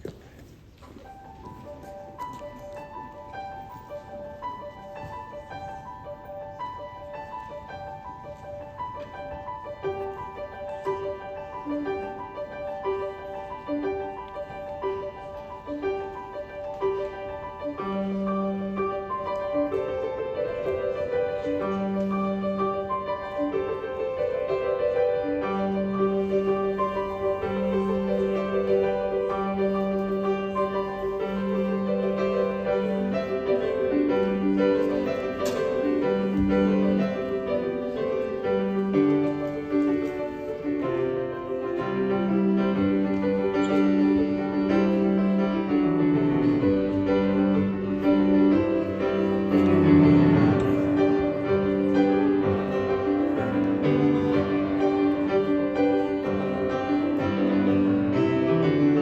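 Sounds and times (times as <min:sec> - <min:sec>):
solo piano playing: 0:01.0 - 0:59.0.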